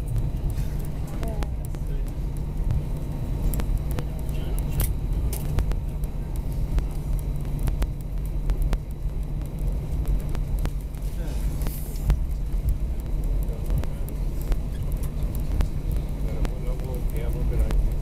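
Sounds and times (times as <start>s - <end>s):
aircraft rolling rumble: 0.0s - 18.0s.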